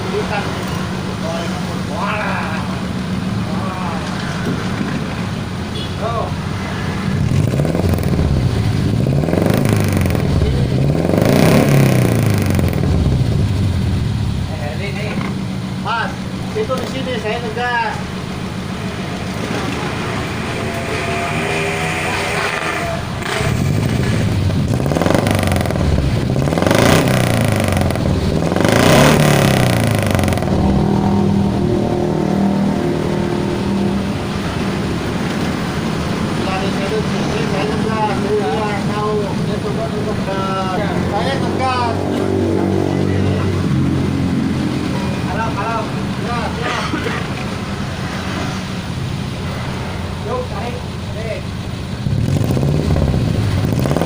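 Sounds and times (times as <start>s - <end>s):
car engine running: 0.0s - 54.0s
engine revving: 0.0s - 54.0s.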